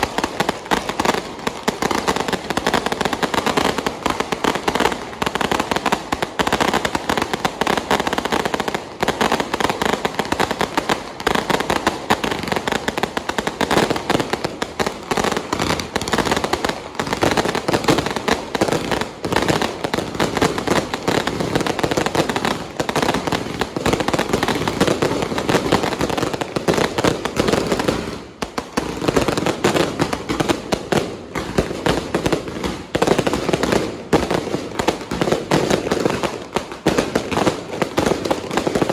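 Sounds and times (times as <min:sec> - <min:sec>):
firecrackers crackling: 0:00.0 - 0:38.9
fireworks pops and bangs: 0:00.0 - 0:38.9.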